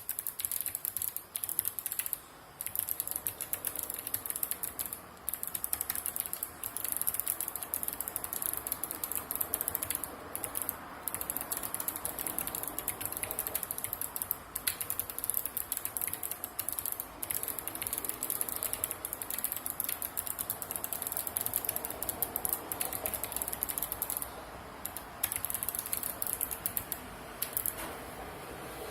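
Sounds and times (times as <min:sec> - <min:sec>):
fast clicky keyboard typing: 0:00.0 - 0:27.9.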